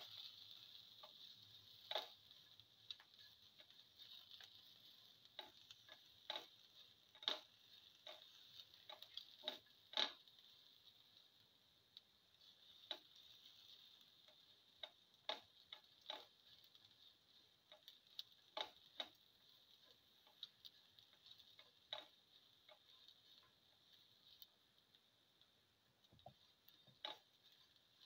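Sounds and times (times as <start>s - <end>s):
spatula scraping a pan: 0.0s - 11.6s, 12.3s - 24.9s, 26.2s - 28.0s
onions frying hiss: 0.0s - 28.0s.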